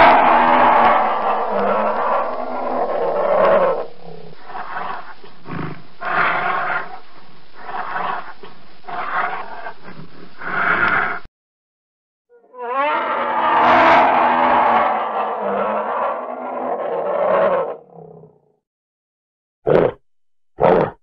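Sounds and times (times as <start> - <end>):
bear growling and roaring: 0.0 - 7.0, 7.6 - 11.3, 12.5 - 18.4, 19.7 - 20.0, 20.6 - 21.0.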